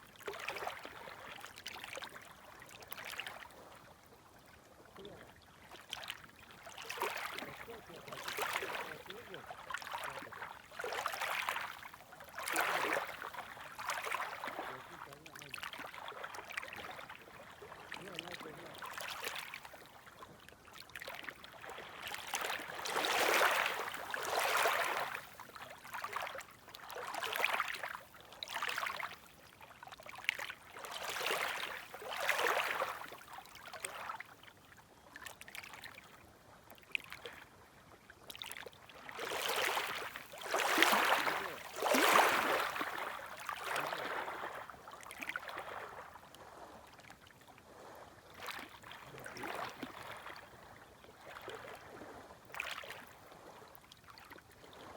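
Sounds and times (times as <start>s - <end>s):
small waves lapping on shore: 0.0s - 54.9s.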